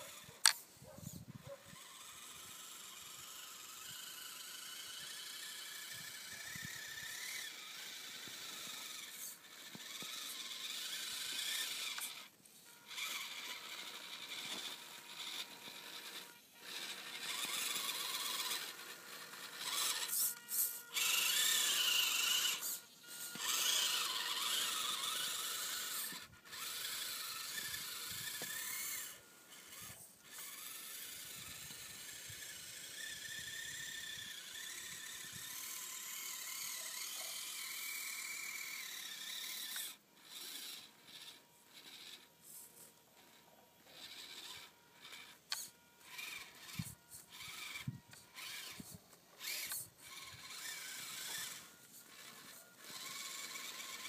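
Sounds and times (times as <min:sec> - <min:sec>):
small electric motor whining: 0:00.0 - 0:54.0.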